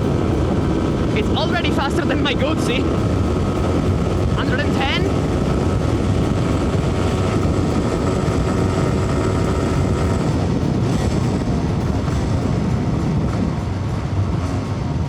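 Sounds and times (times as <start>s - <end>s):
motorcycle engine droning: 0.0s - 15.0s.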